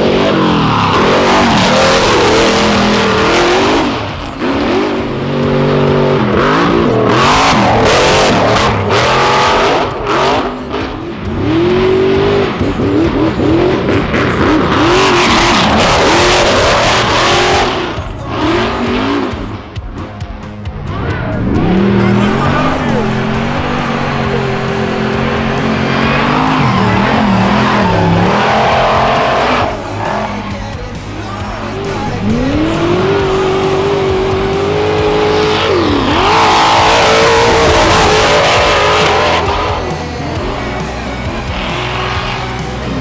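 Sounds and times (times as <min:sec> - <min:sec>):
engine revving hard: 0:00.0 - 0:20.2, 0:20.9 - 0:43.0.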